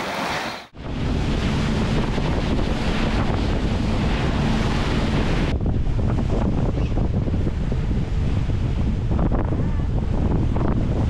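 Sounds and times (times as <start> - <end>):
boat wake spraying: 0.0 - 11.0
low engine hum: 0.7 - 11.0
wind buffeting microphone: 0.7 - 11.0.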